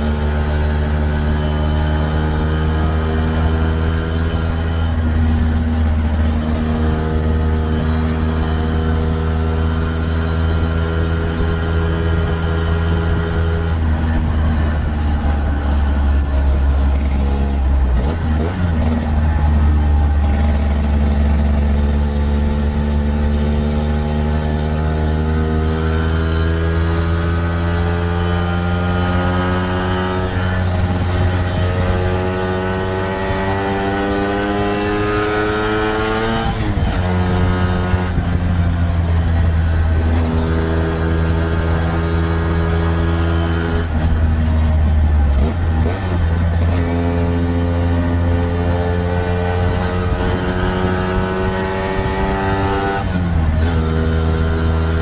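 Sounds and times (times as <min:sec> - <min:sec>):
scooter two-stroke engine: 0:00.0 - 0:55.0
wind rumble: 0:00.0 - 0:55.0.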